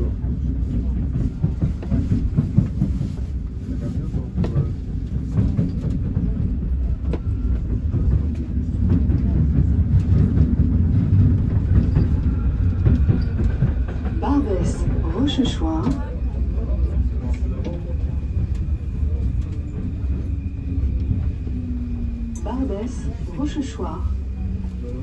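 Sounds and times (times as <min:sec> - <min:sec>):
passing train: 0:00.0 - 0:25.0
train rumbling: 0:00.0 - 0:25.0.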